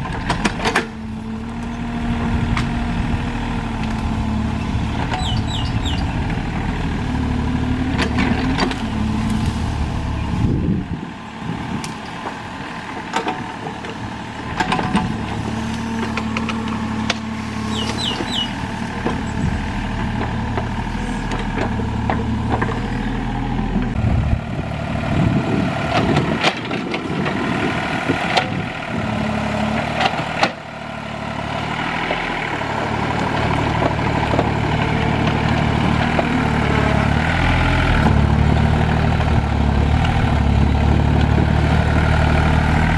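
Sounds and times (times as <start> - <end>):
excavator diesel engine: 0.0 - 42.9.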